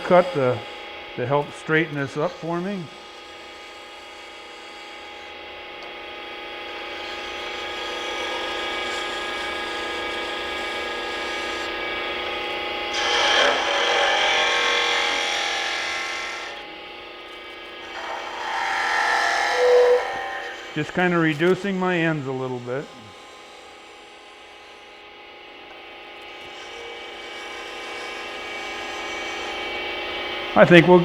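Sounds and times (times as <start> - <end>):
gouge cutting spinning wood: 0.0 - 16.7, 17.3 - 31.0
wood lathe whine: 0.0 - 31.0.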